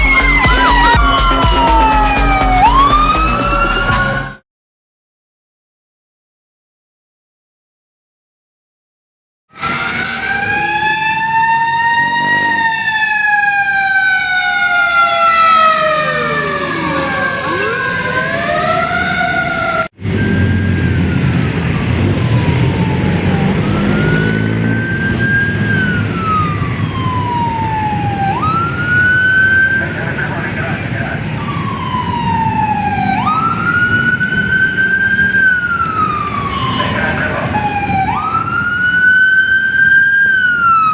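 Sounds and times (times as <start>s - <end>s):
engine and road rumble: 0.0s - 4.4s, 9.5s - 40.9s
fire truck sirens wailing: 0.0s - 4.4s, 9.5s - 40.9s.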